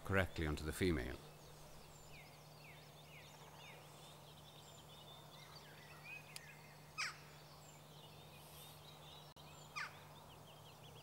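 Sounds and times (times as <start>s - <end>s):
faint birdsong chirps: 0.0s - 11.0s
steady low hum: 0.0s - 11.0s.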